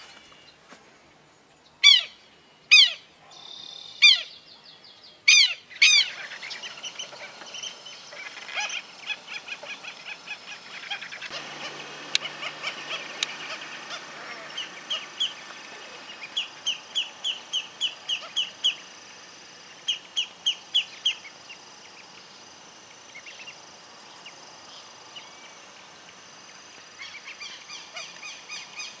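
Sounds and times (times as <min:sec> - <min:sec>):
bird calls: 0:01.5 - 0:29.0.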